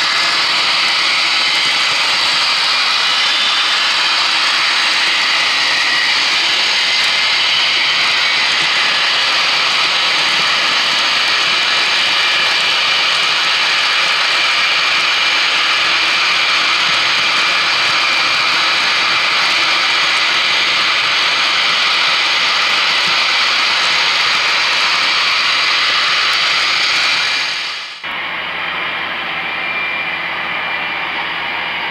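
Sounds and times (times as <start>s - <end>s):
wheels rolling on track: 0.0s - 27.8s
model train diesel engine sound: 0.0s - 31.9s.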